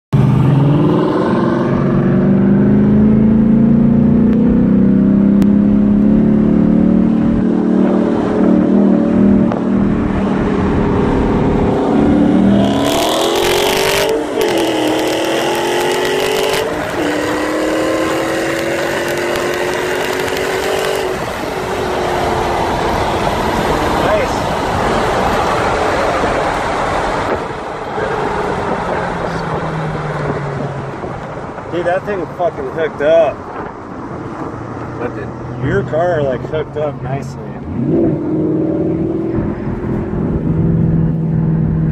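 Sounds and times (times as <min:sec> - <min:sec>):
car engines racing: 0:00.1 - 0:41.9.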